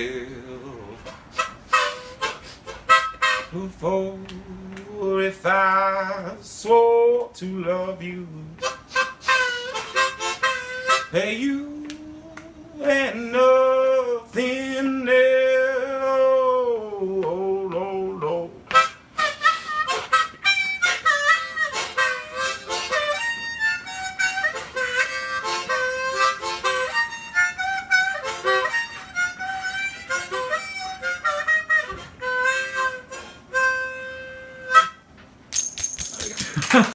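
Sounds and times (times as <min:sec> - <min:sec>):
blues harmonica: 0:00.0 - 0:04.2, 0:08.1 - 0:16.9, 0:18.2 - 0:35.2.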